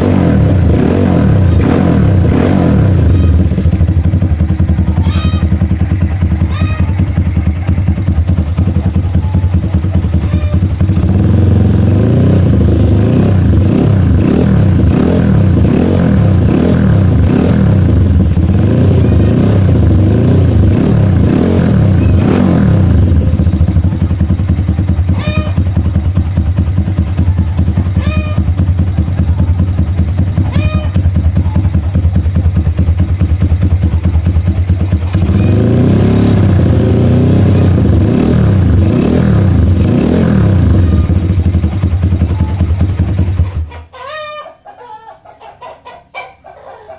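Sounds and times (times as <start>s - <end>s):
engine revving: 0.0s - 43.7s
motorcycle engine idling: 0.0s - 44.1s.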